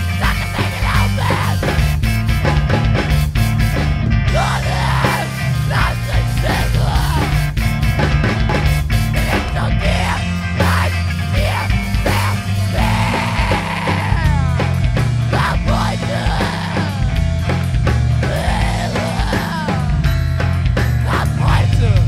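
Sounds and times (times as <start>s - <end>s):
yelled vocals: 0.0s - 3.2s, 4.2s - 20.1s, 21.0s - 22.0s
distorted rock instruments: 0.0s - 22.0s
drum kit: 0.0s - 22.0s.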